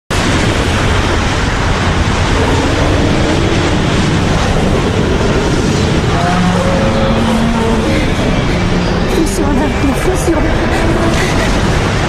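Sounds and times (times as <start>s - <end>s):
deep low rumble: 0.1s - 12.0s
tornado wind rushing: 0.1s - 12.0s.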